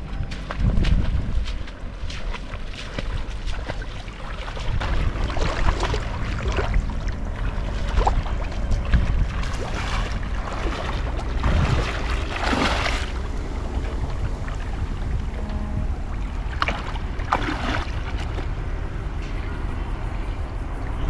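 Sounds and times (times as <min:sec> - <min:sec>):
wading and splashing in water: 0:00.0 - 0:21.0
wind on microphone: 0:00.0 - 0:21.0.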